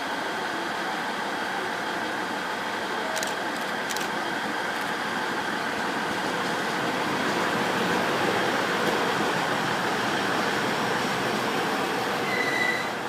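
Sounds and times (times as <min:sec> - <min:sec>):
railcar engine and fans running: 0:00.0 - 0:13.0.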